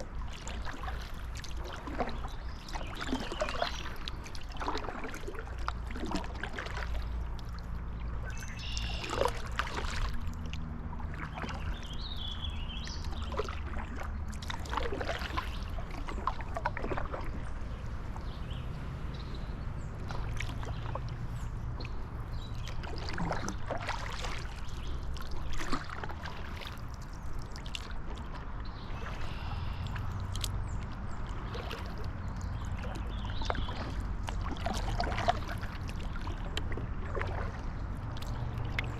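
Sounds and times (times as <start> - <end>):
low steady rumble: 0.0 - 38.9
paddle splashing in water: 0.0 - 38.9
water trickling off paddle: 0.0 - 38.9.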